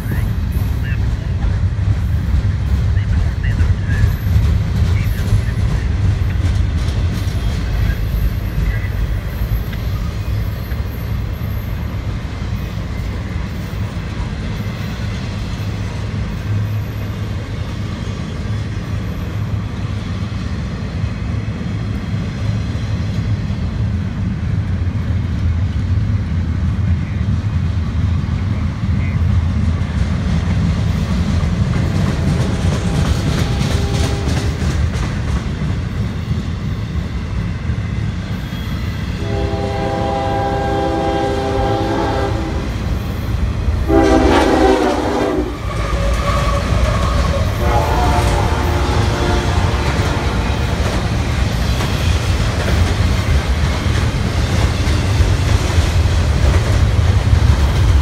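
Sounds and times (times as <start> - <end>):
freight train rolling past: 0.0 - 58.0
wheels rumbling on rail: 0.0 - 58.0.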